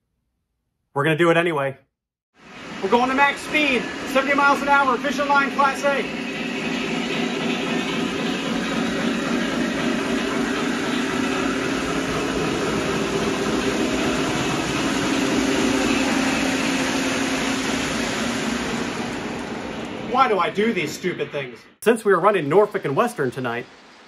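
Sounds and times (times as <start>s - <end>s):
model train rolling on track: 2.6s - 23.9s.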